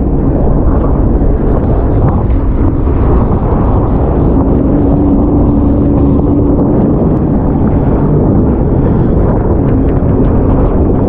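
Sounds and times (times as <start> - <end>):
jet ski engine drone: 0.0 - 11.0
wind noise on microphone: 0.0 - 11.0.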